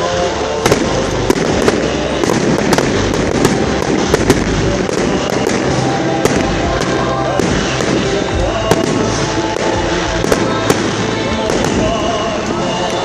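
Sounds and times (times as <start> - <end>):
fireworks bangs: 0.0 - 13.0
fireworks crackling and rumbling: 0.0 - 13.0.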